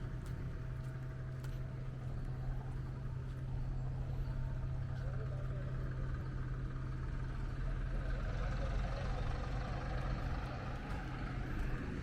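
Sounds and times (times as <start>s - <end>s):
low engine hum: 0.0s - 12.0s
outdoor background noise: 0.0s - 12.0s.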